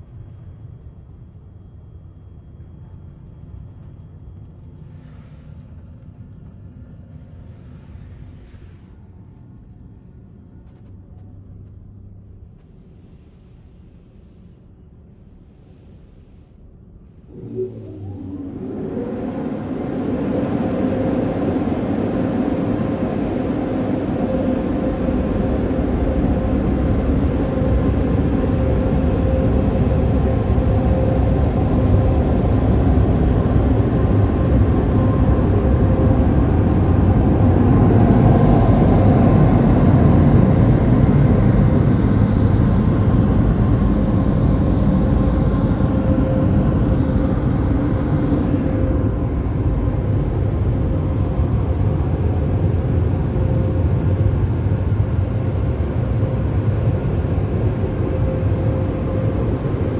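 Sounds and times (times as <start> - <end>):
constant hum: 0.0 - 59.9.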